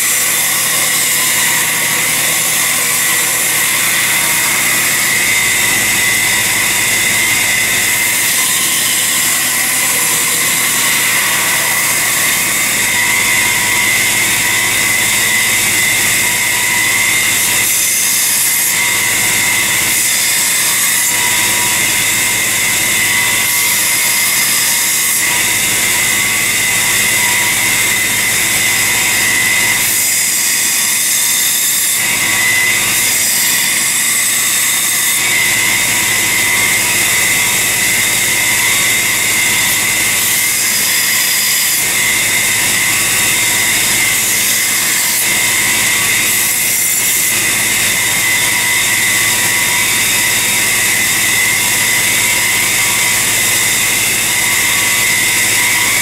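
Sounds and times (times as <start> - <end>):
grinding steel: 0.0 - 56.0
power grinder whining: 0.0 - 56.0.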